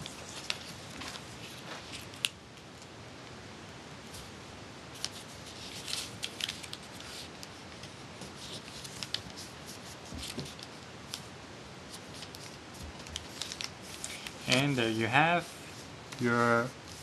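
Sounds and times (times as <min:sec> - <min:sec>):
paper crinkling and rustling: 0:00.0 - 0:02.4, 0:04.9 - 0:11.3, 0:11.9 - 0:17.0
faint steady hiss: 0:00.0 - 0:17.0.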